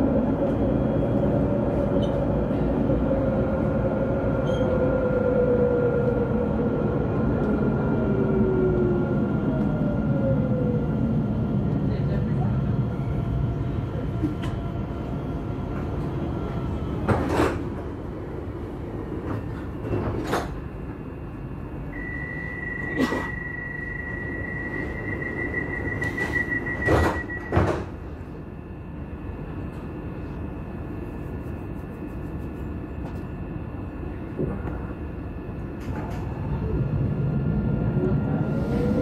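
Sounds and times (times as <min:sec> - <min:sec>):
tram equipment humming: 0:00.0 - 0:39.0.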